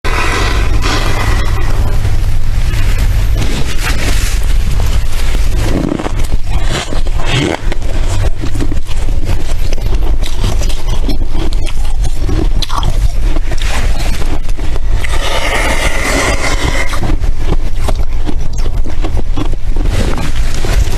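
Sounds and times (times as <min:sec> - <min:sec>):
low rumble: 0:00.0 - 0:20.9
freezer frost crunching and squeaking: 0:00.1 - 0:20.9.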